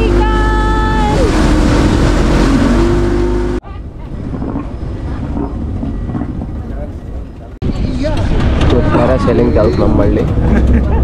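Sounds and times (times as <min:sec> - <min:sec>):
motorboat engine: 0:00.0 - 0:11.0
wind and water noise: 0:00.0 - 0:11.0.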